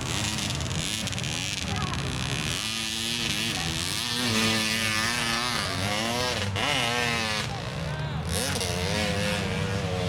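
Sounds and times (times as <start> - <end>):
hum of motorcycles running: 0.0 - 10.0
motorcycle engines revving: 0.0 - 10.0.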